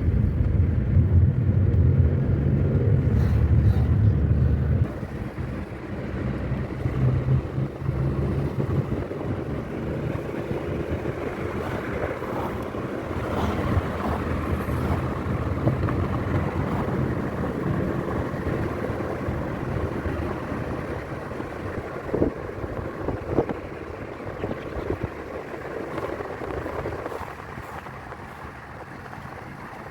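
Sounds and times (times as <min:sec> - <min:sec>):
motor engine running: 0:00.0 - 0:29.9
wind buffeting microphone: 0:00.0 - 0:29.9.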